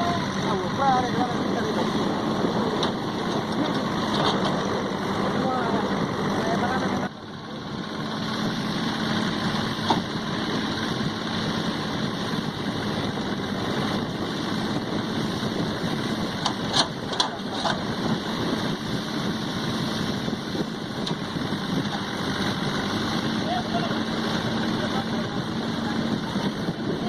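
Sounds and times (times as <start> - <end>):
diesel tractor engine running: 0.0 - 27.0.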